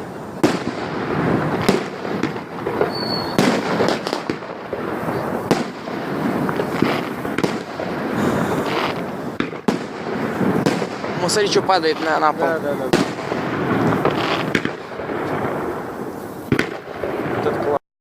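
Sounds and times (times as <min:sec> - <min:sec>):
firework shells bursting: 0:00.0 - 0:17.8
fireworks crackling: 0:00.0 - 0:17.8.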